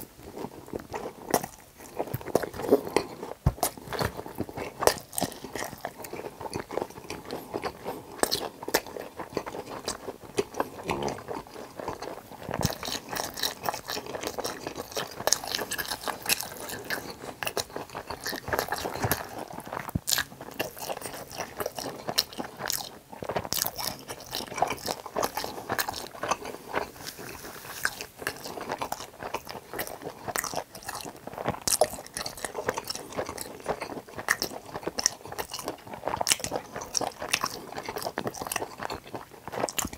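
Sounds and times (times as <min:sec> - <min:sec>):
crunchy chewing of fried food: 0:00.0 - 0:39.9.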